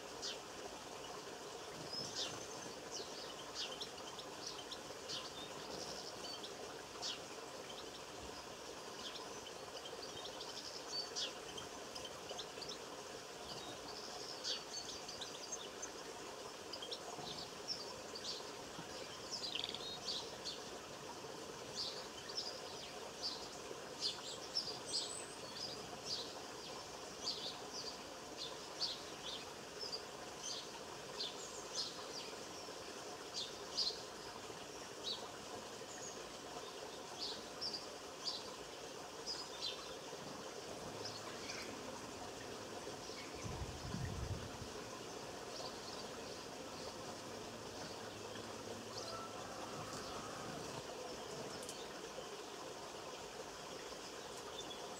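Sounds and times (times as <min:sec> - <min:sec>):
songbirds chirping and singing: 0:00.2 - 0:54.9.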